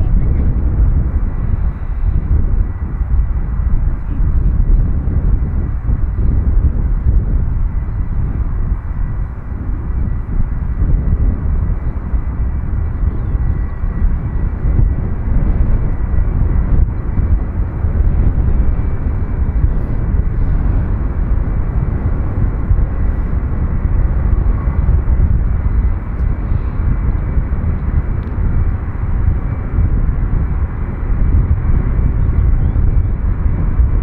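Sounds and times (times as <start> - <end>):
jet engines rumbling with whine: 0.0 - 34.0.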